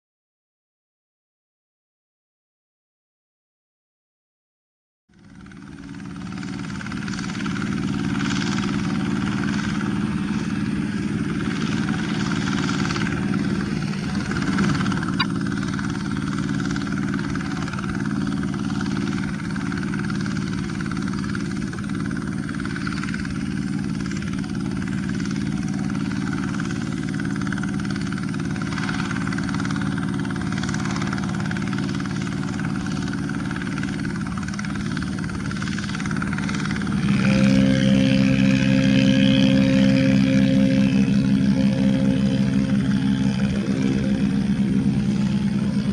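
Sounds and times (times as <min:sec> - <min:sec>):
diesel tractor engine running: 0:05.3 - 0:45.9.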